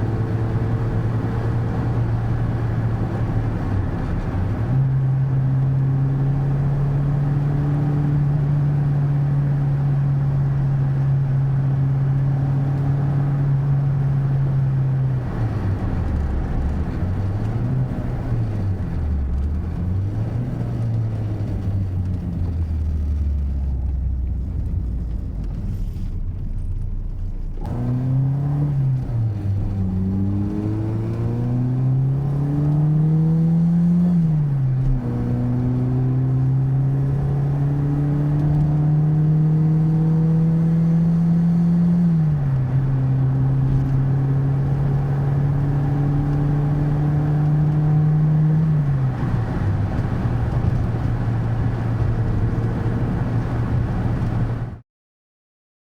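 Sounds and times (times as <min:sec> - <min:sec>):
car engine accelerating: 0:00.0 - 0:54.8.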